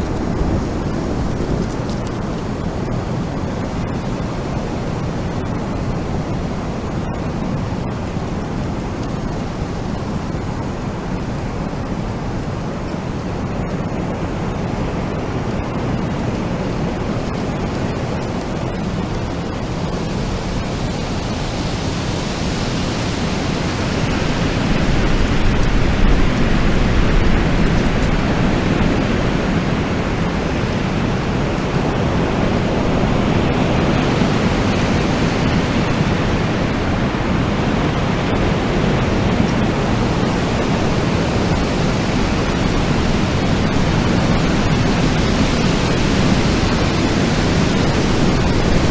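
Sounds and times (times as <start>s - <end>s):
wind blowing in gusts: 0.0s - 48.9s.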